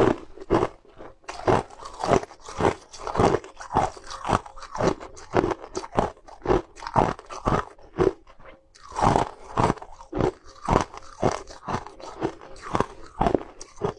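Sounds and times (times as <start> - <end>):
person chewing crunchy food: 0.0 - 13.9.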